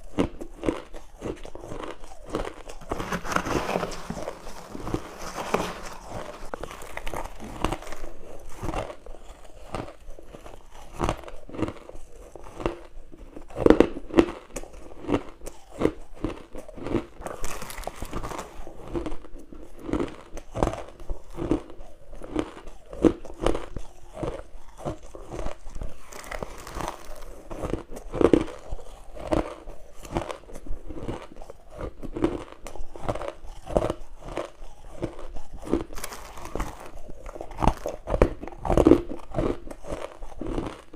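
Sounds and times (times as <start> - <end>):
person crunching ice: 0.0 - 40.9.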